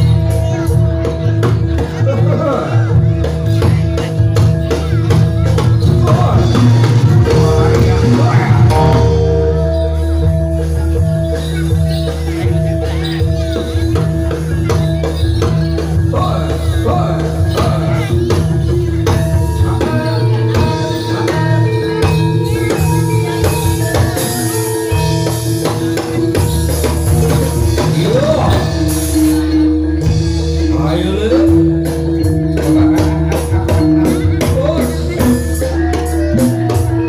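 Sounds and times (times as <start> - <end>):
drums beating steady rhythm: 0.0 - 37.0
jingling percussion: 0.0 - 37.0
ringing metal percussion notes: 0.0 - 37.0.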